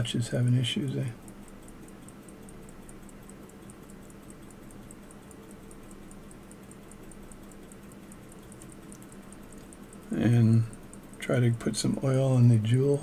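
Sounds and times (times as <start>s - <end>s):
low steady hum: 0.0s - 13.0s
pocket watch ticking: 0.0s - 13.0s.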